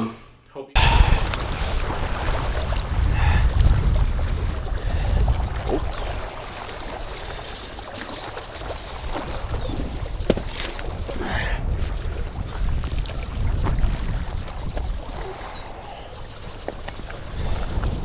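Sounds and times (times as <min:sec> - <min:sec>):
lake water washing at bank: 0:00.8 - 0:18.0
wind buffeting microphone: 0:00.8 - 0:18.0.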